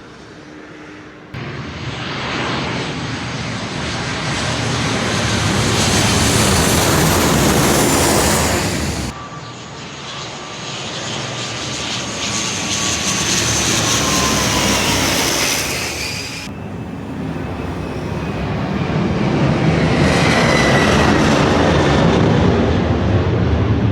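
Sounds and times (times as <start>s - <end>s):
high engine whine: 0.0s - 22.2s
low-flying airplanes passing: 0.0s - 23.9s.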